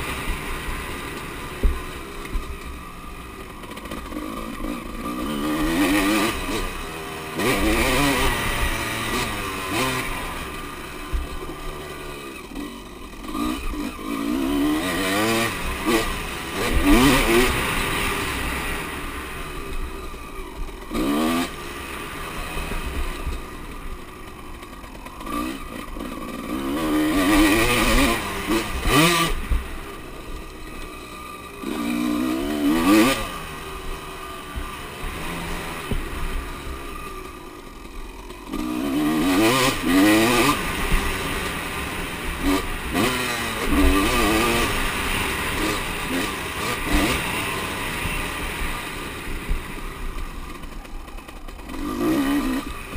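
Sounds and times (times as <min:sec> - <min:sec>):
motocross bike engines revving: 0:00.0 - 0:52.9.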